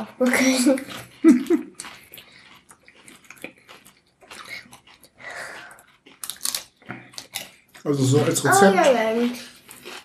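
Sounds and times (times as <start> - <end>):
people chewing crisp taco shells: 0.0 - 10.0.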